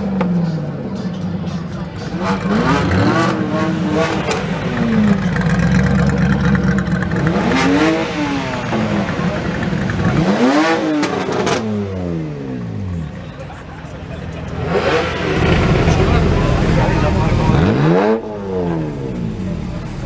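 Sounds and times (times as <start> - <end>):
car engine idling: 0.0 - 20.0
car engines revving: 0.0 - 20.0.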